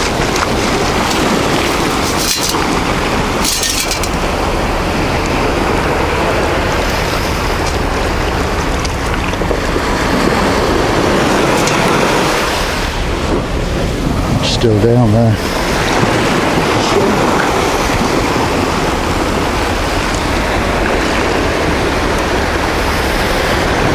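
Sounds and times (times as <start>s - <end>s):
surf rushing: 0.0s - 23.9s
wind buffeting microphone: 0.0s - 23.9s.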